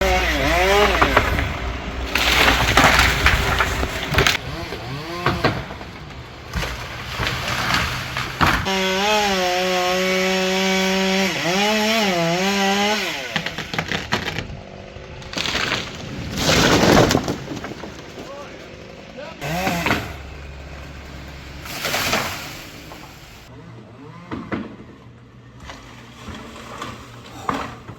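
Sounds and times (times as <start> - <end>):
chainsaw cutting wood: 0.0 - 24.9.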